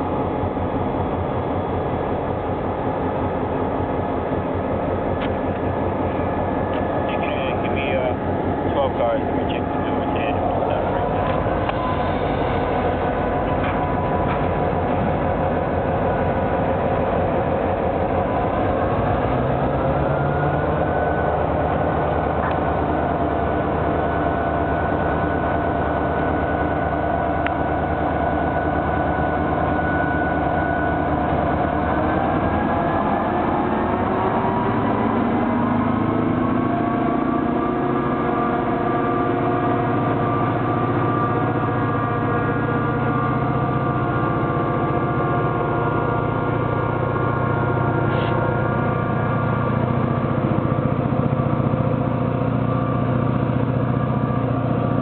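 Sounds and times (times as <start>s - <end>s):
diesel locomotive engines running: 0.0s - 55.0s.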